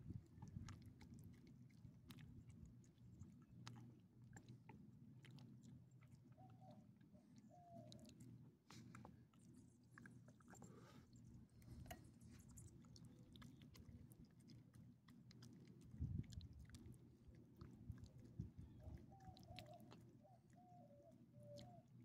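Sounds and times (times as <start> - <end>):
dog chewing and licking: 0.0 - 6.4, 7.8 - 20.6.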